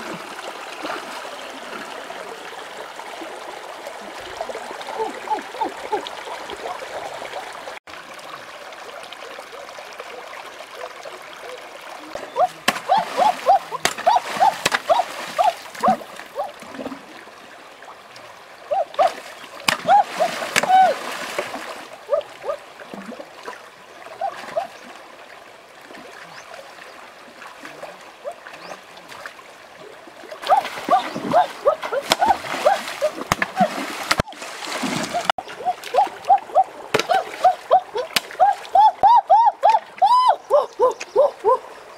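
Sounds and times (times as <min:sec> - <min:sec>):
river water trickling and gurgling: 0:00.0 - 0:41.9.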